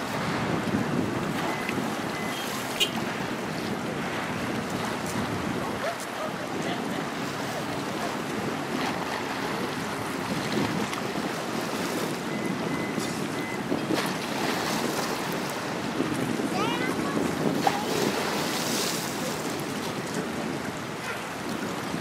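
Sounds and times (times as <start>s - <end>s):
small waves breaking and splashing: 0.0s - 22.0s
wind buffeting microphone: 0.0s - 22.0s.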